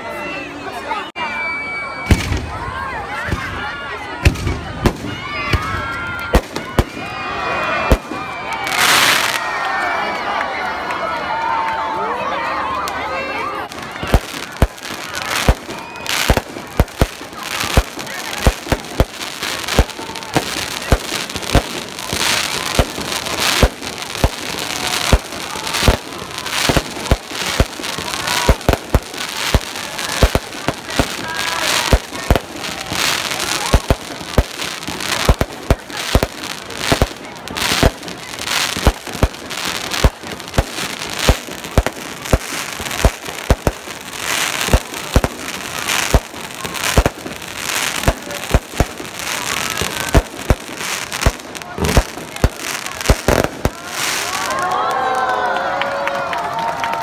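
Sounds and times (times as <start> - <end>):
fireworks crackling: 0.6 - 57.0
fireworks bangs: 2.0 - 9.6, 12.8 - 55.3.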